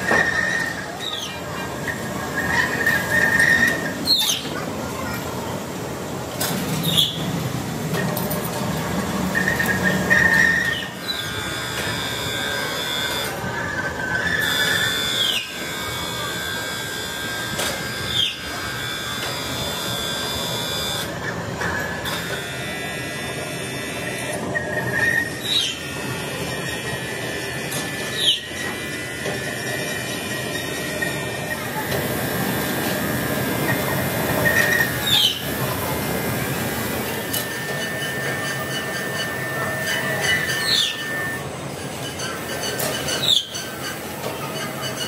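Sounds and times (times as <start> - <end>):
metalworking machinery whining: 0.0 - 45.0.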